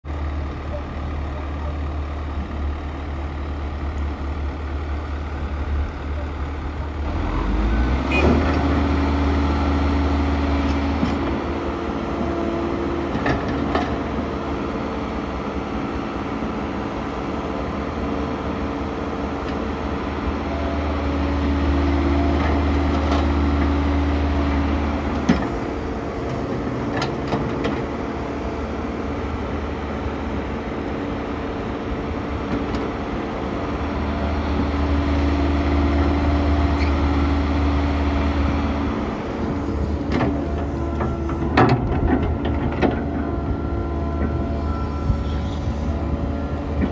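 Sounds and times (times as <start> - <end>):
excavator diesel engine running: 0.1 - 46.9.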